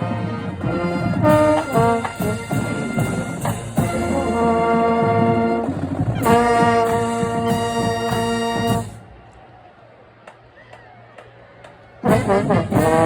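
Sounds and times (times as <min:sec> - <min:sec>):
marching band playing: 0:00.0 - 0:09.6, 0:11.1 - 0:13.0.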